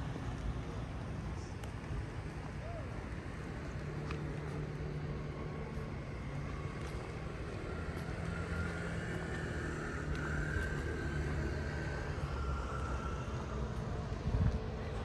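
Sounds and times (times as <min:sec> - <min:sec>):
traffic engine hum: 0:00.0 - 0:15.0
vehicle engine whine: 0:00.0 - 0:15.0.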